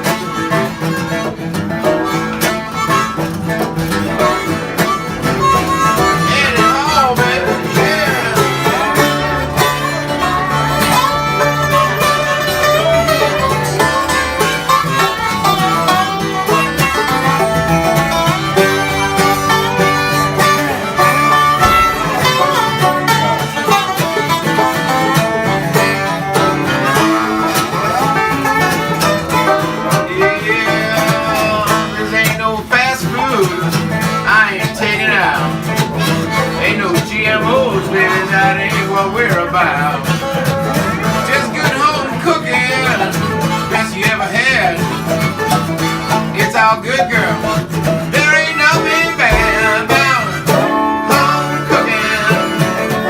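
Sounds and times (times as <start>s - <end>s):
acoustic guitar: 0.0s - 53.0s
banjo: 0.0s - 53.0s.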